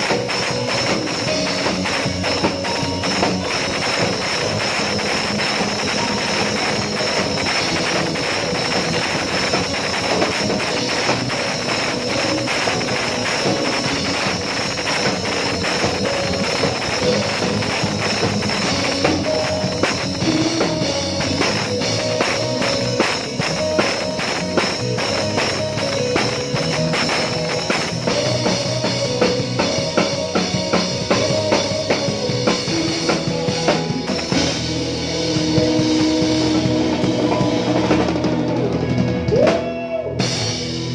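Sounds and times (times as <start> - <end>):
drum kit beat: 0.0 - 40.9
worship band music: 0.0 - 40.9.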